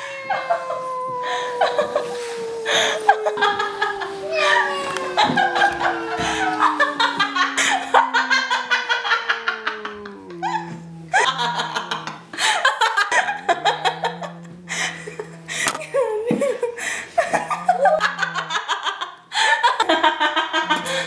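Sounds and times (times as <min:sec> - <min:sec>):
woman laughing loudly: 0:00.0 - 0:21.0
low steady hum: 0:00.2 - 0:19.0.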